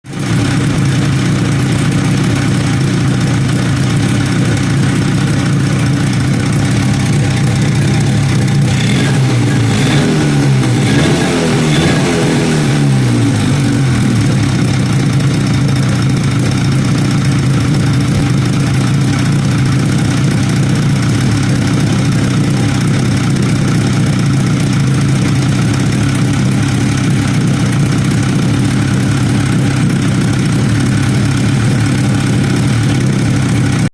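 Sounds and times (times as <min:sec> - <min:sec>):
two-stroke engine idling and revving: 0:00.1 - 0:33.9.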